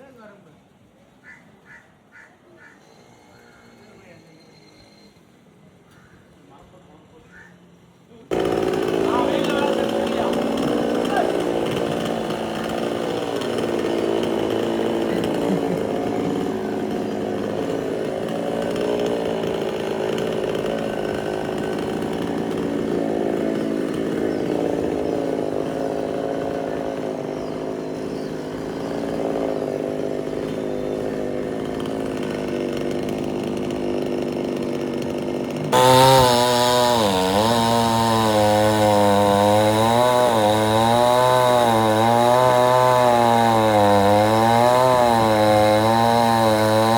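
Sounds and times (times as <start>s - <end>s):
chainsaw engine running: 8.3s - 46.9s.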